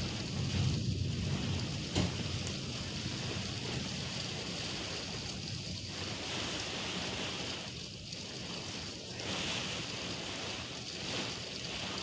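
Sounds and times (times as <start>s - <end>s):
heavy rain in windy storm: 0.0s - 12.0s.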